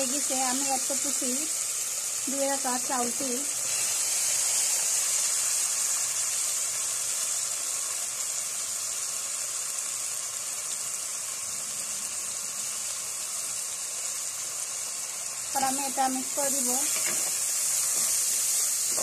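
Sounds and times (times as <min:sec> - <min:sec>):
rice sizzling in hot oil: 0:00.0 - 0:19.0.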